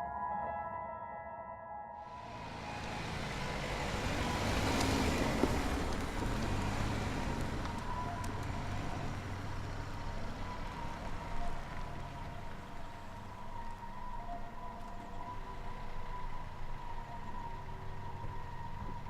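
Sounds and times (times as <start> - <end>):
vehicle passing by: 2.2 - 19.0.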